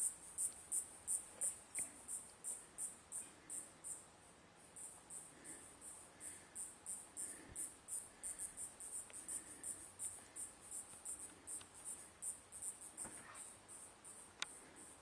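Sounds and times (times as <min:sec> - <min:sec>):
faint cricket chirping: 0:00.0 - 0:15.0.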